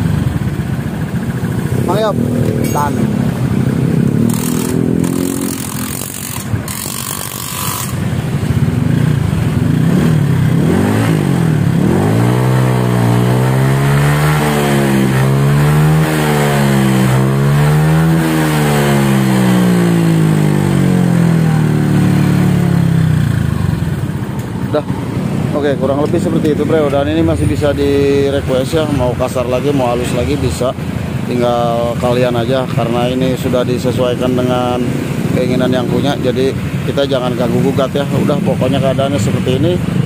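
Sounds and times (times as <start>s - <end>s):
scooter engine revving: 0.0s - 40.0s.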